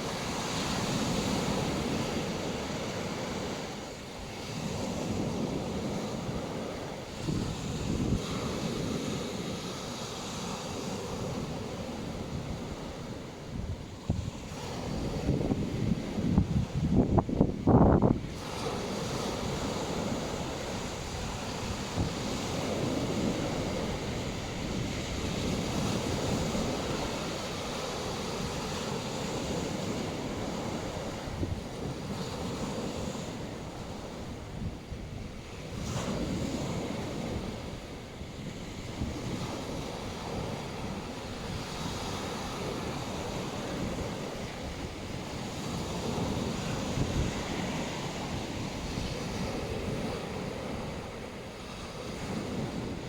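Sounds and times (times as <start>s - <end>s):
waves breaking on a beach: 0.0s - 53.0s
wind buffeting microphone: 0.0s - 53.0s.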